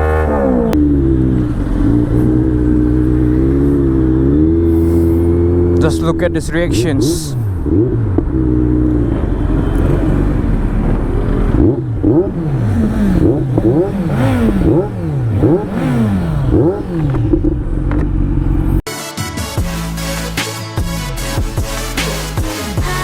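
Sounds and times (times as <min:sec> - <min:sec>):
motorcycle engines revving: 0:00.0 - 0:18.8.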